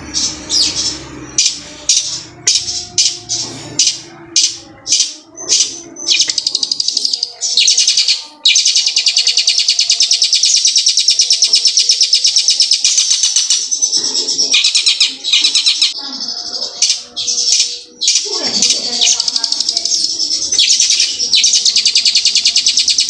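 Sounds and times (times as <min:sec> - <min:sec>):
bird singing rolling trills: 0:00.0 - 0:23.0.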